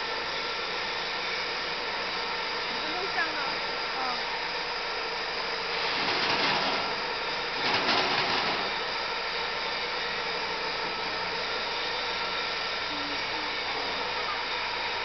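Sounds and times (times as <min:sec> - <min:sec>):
machine rollers whirring: 0:00.0 - 0:15.0.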